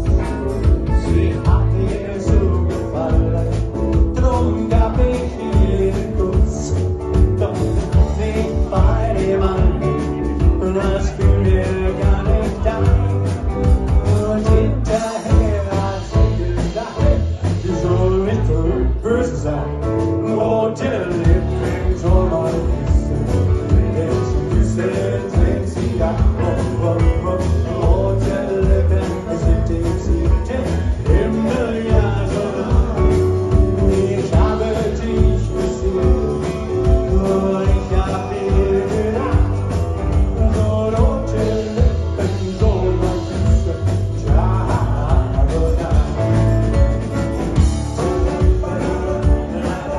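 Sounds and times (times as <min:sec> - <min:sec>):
live band playing: 0:00.0 - 0:49.9
person singing: 0:00.0 - 0:49.9.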